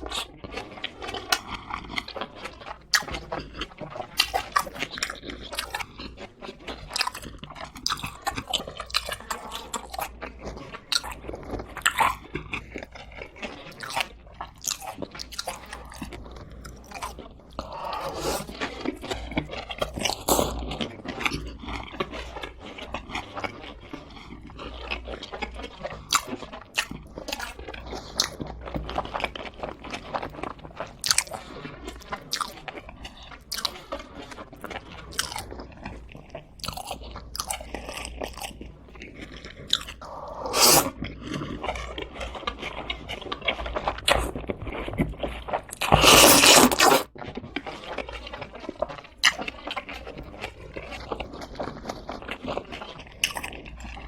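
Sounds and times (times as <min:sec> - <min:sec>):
chewing fried chicken: 0:00.0 - 0:54.0.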